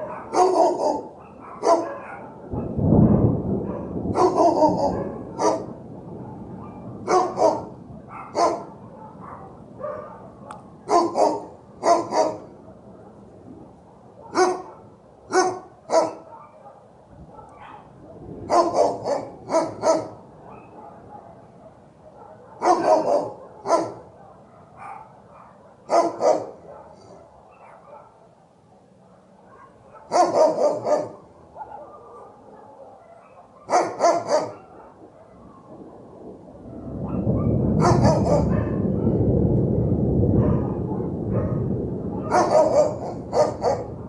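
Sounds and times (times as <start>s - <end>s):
dog barking: 0.0s - 13.2s, 13.9s - 28.4s, 29.0s - 35.9s, 36.6s - 39.3s, 40.3s - 44.0s.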